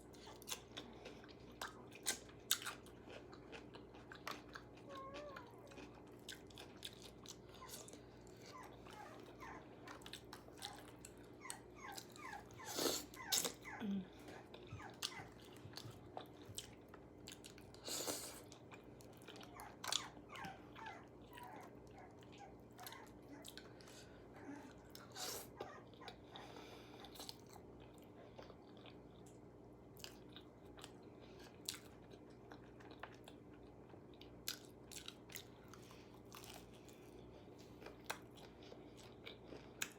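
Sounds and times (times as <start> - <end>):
chewing and crunching fried chicken: 0.0 - 39.9.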